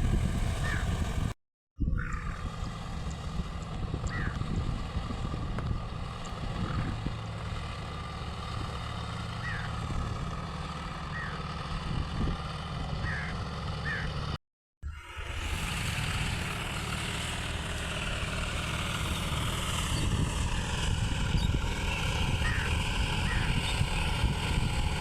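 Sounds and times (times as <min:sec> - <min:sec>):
tractor engine running under load: 0:02.2 - 0:14.4, 0:15.0 - 0:25.0.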